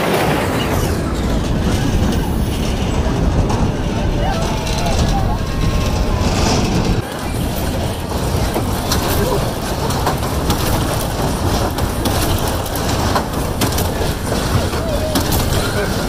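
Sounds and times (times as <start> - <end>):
ride machinery rumbling: 0.0 - 16.0.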